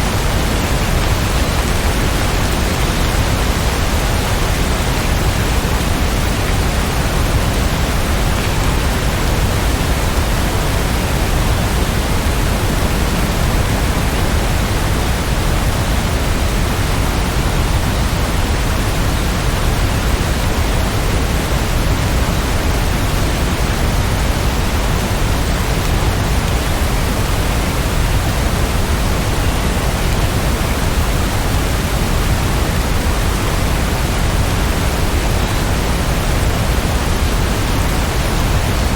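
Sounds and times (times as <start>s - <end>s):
heavy rain hiss: 0.0s - 38.9s.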